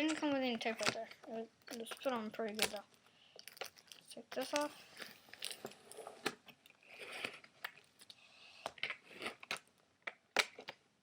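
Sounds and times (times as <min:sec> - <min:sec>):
plastic clicks and crackles: 0:00.0 - 0:10.8.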